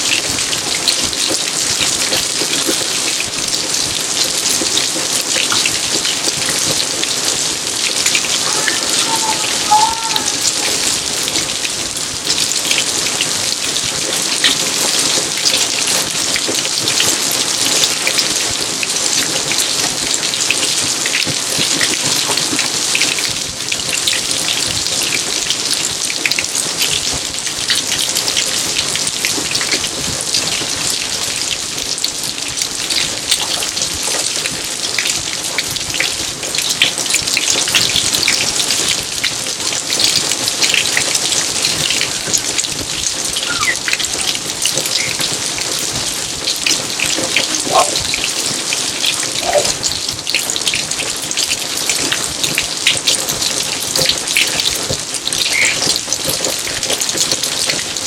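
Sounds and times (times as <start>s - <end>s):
raindrops striking close by: 0.0s - 58.0s
steady rain hiss: 0.0s - 58.0s.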